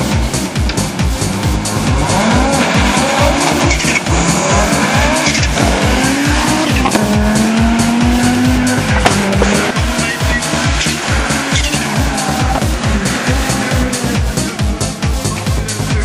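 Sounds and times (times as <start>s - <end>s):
electronic music with steady beat: 0.0s - 16.0s
rally car engine revving: 0.0s - 16.0s.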